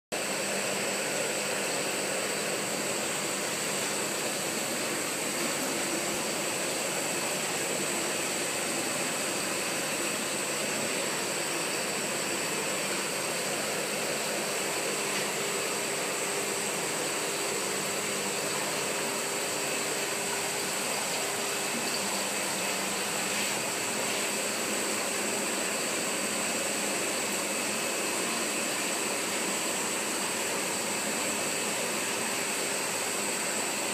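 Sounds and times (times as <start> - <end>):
machine whir and hiss: 0.2 - 33.9.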